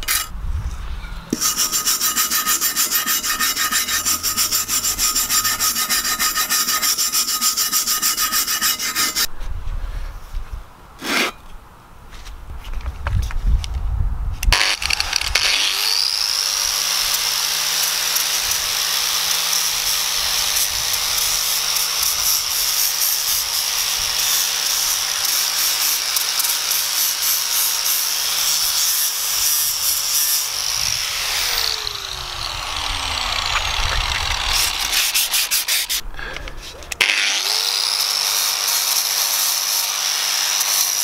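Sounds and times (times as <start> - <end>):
angle grinder grinding metal: 0.0 - 0.3, 1.1 - 9.3, 14.5 - 36.0, 36.9 - 41.0.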